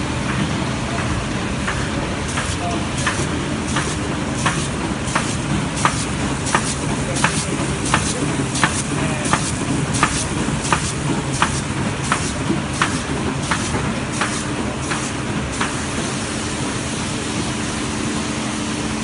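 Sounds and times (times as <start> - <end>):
printing press humming: 0.0 - 19.0.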